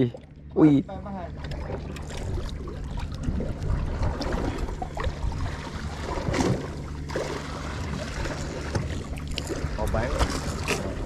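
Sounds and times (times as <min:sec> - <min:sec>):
boat motor humming: 0:00.0 - 0:11.0
water noise: 0:00.0 - 0:11.0.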